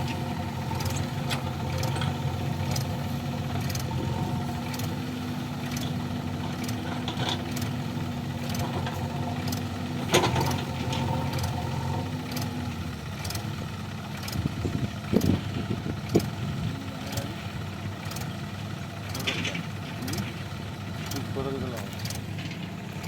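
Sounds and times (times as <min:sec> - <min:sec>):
diesel engine idling: 0:00.0 - 0:23.0
faint regular ticking: 0:00.2 - 0:09.8, 0:11.0 - 0:15.4, 0:16.0 - 0:16.4, 0:17.0 - 0:22.3.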